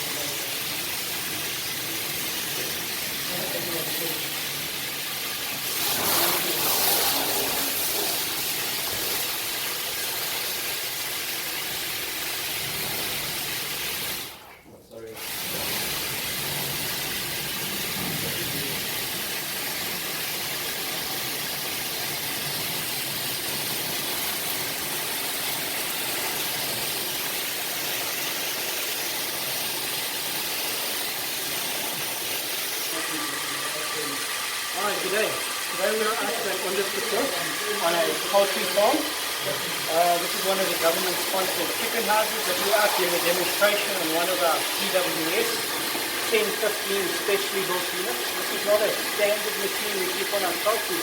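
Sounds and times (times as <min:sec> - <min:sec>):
pressure washer spraying water: 0:00.0 - 0:14.4, 0:15.2 - 0:51.0.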